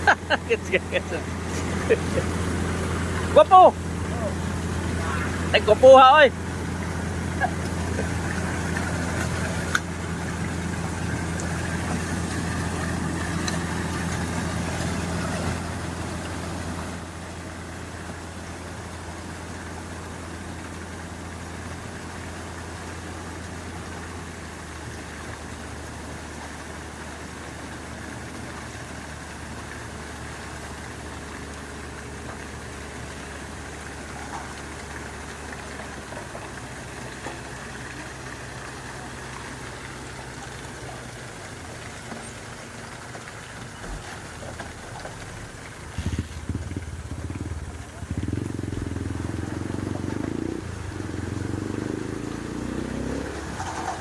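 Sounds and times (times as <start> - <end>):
engine humming: 0.0 - 54.0.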